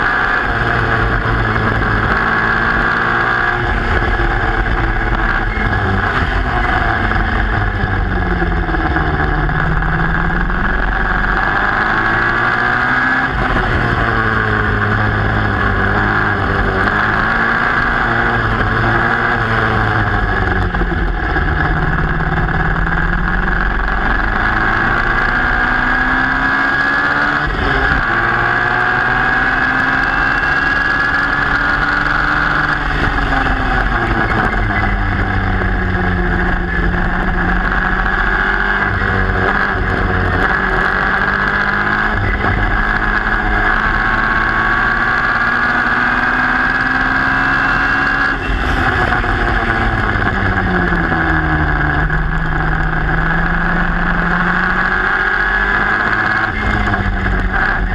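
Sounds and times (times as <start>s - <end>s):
racing car engine revving: 0.0s - 57.9s
wind and road noise: 0.0s - 57.9s.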